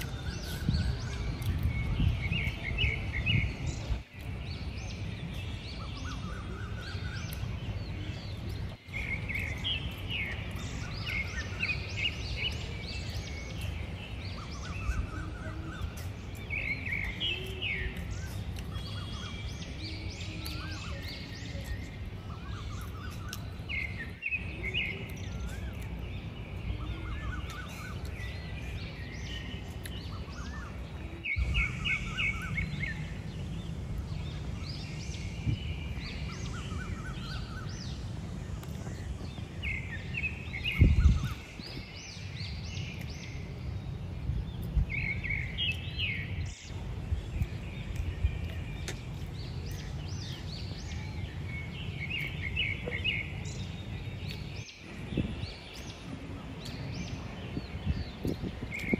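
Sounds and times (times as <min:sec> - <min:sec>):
small birds chirping: 0:00.0 - 0:58.9
low outdoor rumble: 0:00.1 - 0:58.8.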